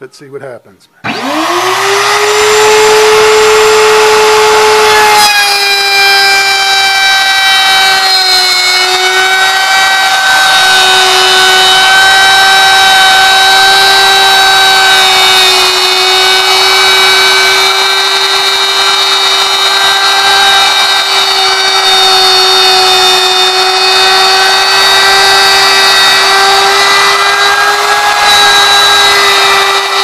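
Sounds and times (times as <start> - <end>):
router bit cutting wood: 1.0 - 30.0
wood router motor whine: 1.0 - 30.0.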